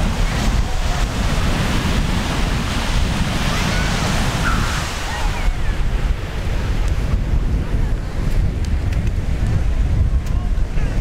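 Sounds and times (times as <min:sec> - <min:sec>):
surf washing: 0:00.0 - 0:11.0
wind buffeting microphone: 0:00.0 - 0:11.0.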